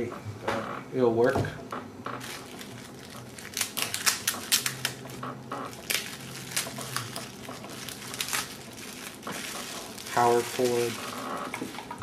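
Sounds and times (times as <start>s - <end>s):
packaging crackling: 2.1s - 12.0s.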